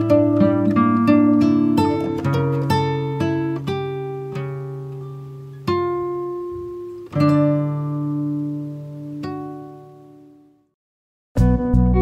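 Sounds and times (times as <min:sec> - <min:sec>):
plucked guitar notes: 0:00.0 - 0:10.6, 0:11.4 - 0:12.0.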